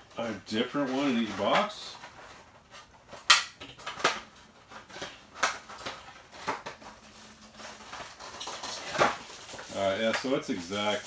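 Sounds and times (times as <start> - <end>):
packaging clicks and rustles: 0.2 - 11.0.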